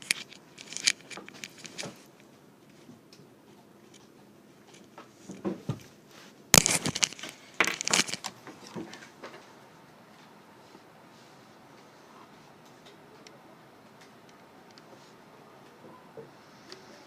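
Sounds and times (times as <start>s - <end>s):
crackling rustling handling noise: 0.0s - 15.8s
faint steady hiss: 0.0s - 17.0s.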